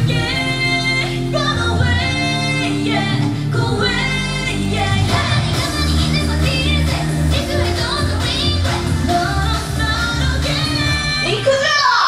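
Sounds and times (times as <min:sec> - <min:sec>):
women singing pop song: 0:00.0 - 0:12.0.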